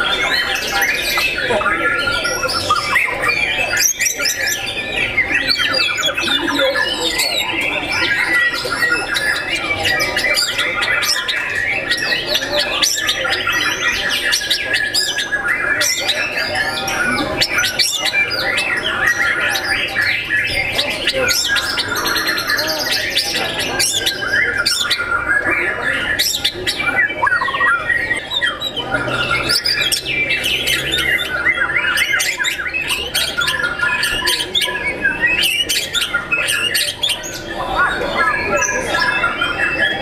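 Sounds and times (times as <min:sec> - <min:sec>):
songbirds singing: 0:00.0 - 0:40.0.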